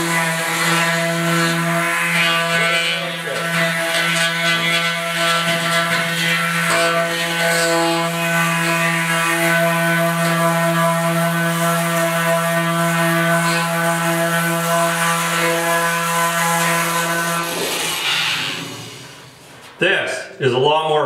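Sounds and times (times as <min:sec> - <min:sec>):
oscillating multi-tool buzzing: 0:00.0 - 0:19.2.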